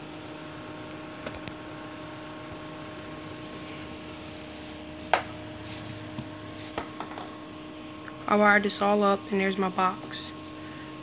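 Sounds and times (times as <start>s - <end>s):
low hum with constant tones: 0.0s - 11.0s.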